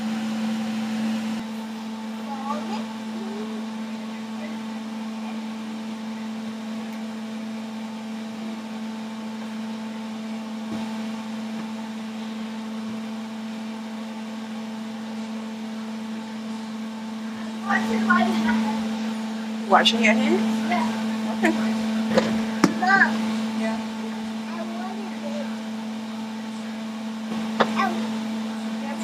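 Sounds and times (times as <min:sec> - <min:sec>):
kitchen appliance motor humming: 0:00.0 - 0:29.0.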